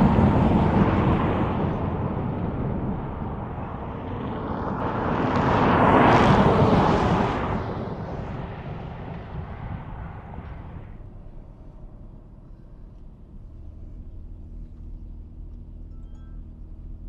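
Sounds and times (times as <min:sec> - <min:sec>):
vehicle driving past: 0:00.0 - 0:17.0.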